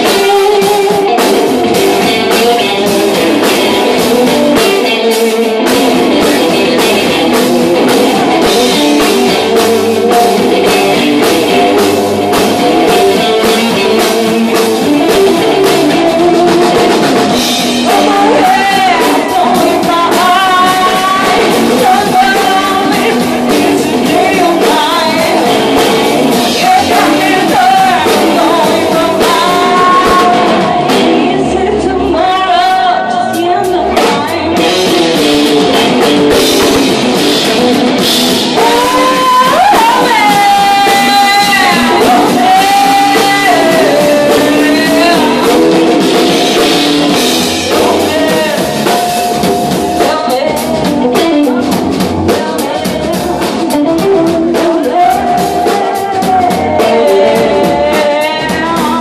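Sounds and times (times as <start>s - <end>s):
live rock band: 0.0s - 59.0s
woman singing lead vocal: 0.0s - 59.0s.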